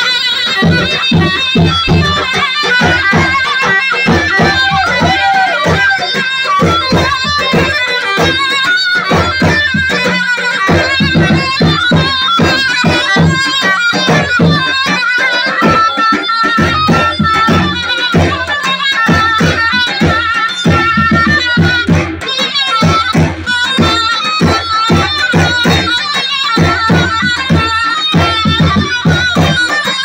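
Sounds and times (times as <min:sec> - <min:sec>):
fast drum beat: 0:00.0 - 0:30.0
high ornamented melody: 0:00.0 - 0:30.0.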